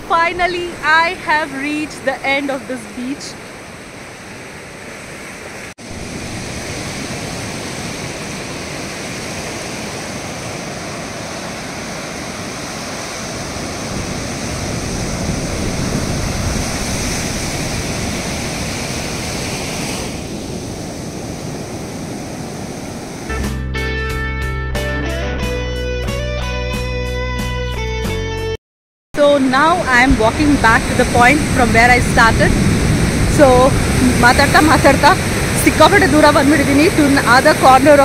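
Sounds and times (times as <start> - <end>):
ocean surf washing up sand: 0.2 - 23.3, 29.4 - 38.0.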